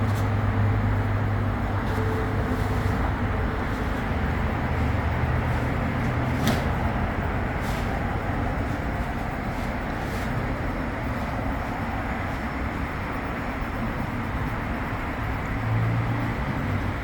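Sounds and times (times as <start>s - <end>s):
machine humming: 0.0s - 13.9s.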